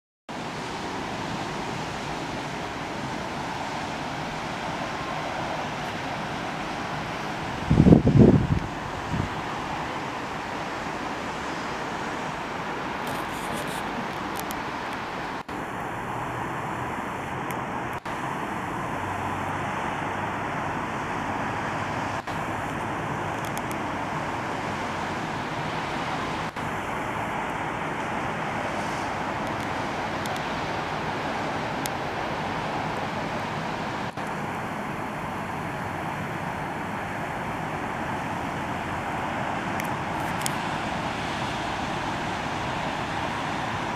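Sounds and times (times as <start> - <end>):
distant road traffic hum: 0.3 - 43.9.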